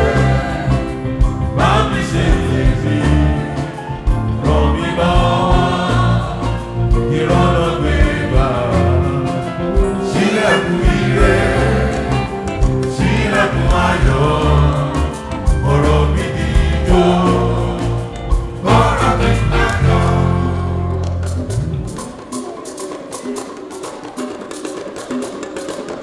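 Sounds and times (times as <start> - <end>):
choir singing a hymn: 0.0 - 21.4
band with bass and keyboard: 0.0 - 22.8.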